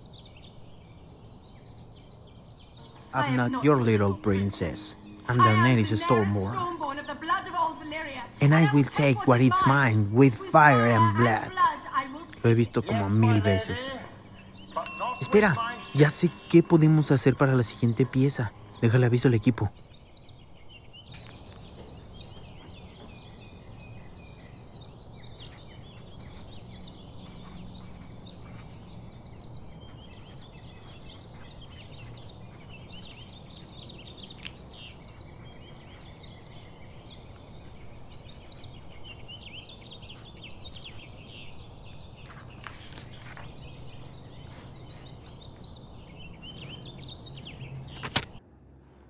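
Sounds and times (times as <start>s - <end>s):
small birds chirping: 0.0s - 48.4s.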